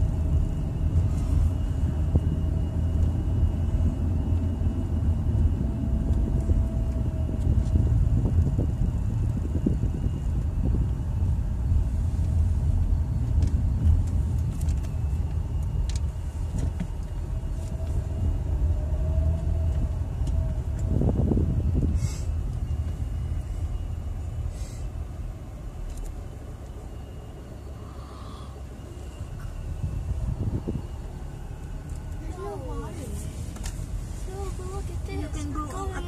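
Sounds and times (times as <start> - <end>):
car engine and tyres rumble: 0.0 - 36.0.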